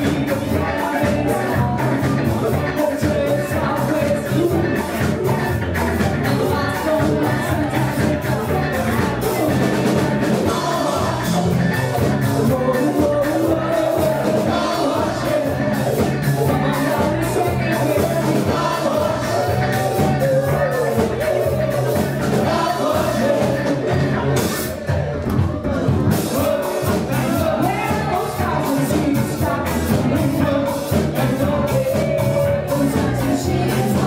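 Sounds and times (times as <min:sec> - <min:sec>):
live funk band playing: 0:00.0 - 0:34.0.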